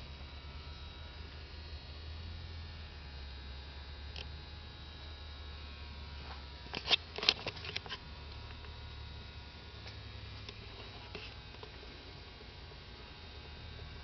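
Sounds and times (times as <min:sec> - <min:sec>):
equipment humming: 0:00.0 - 0:14.0
faint whine tones: 0:00.0 - 0:14.0.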